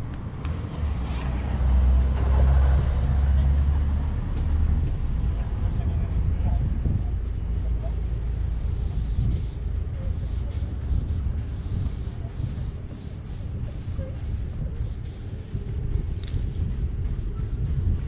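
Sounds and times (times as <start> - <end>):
spray-paint can hissing: 1.0 - 18.0.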